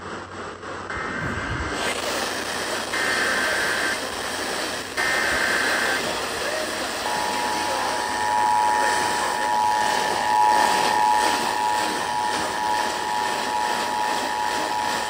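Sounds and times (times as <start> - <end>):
radio hiss: 0.0 - 15.0.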